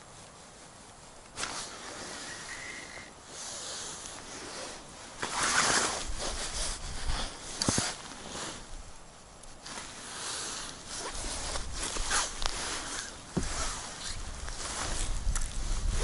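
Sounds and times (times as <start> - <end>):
handling noises: 0.0 - 16.0
winter suit rustling: 0.0 - 16.0.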